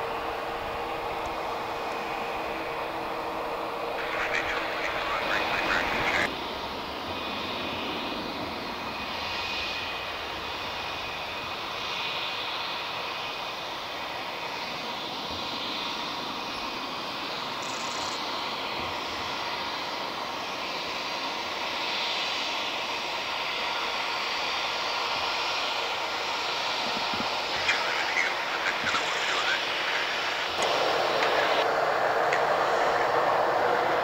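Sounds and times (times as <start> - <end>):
jet engines hissing and whining: 0.0 - 34.0.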